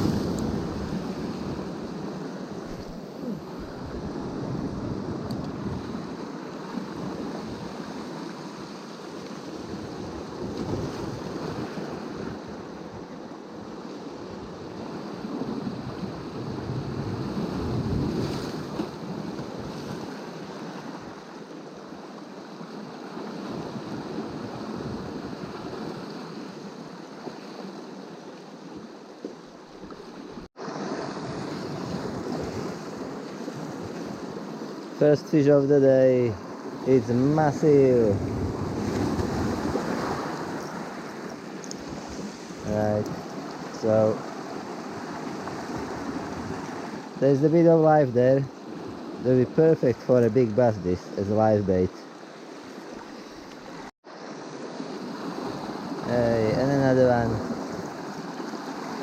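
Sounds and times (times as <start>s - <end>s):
small waves washing on shore: 0.0s - 59.0s.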